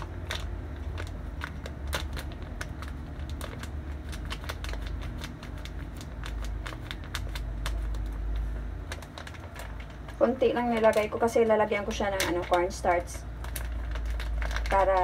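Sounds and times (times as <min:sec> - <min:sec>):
paper packet shaken and rustling: 0:00.0 - 0:15.0.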